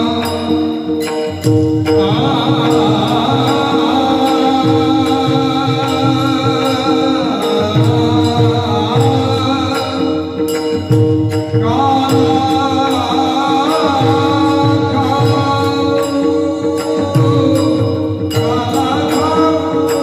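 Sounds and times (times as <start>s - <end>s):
men singing together: 0.0s - 1.2s, 1.8s - 20.0s
drum beating: 0.0s - 20.0s
hand cymbals struck: 0.0s - 20.0s.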